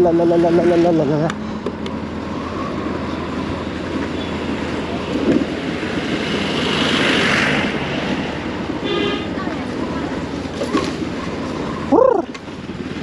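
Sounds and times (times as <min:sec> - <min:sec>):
vehicle and road noise: 0:00.0 - 0:13.0.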